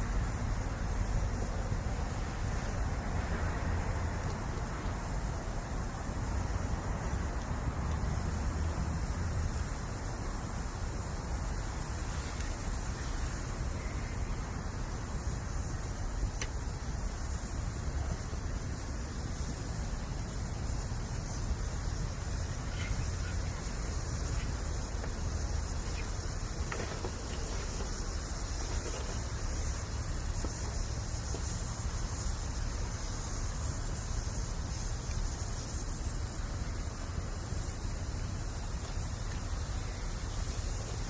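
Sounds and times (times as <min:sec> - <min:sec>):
campfire hissing: 0:00.0 - 0:41.0.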